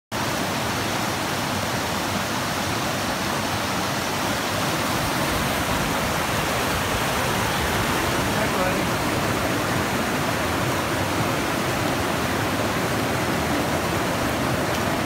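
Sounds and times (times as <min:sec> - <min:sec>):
creek rushing over boulders: 0:00.1 - 0:15.0.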